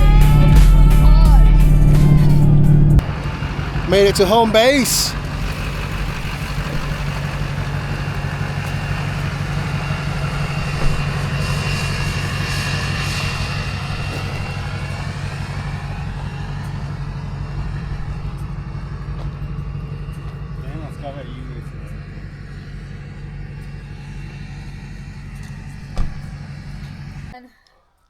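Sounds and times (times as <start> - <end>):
truck engine humming: 0.0 - 27.4.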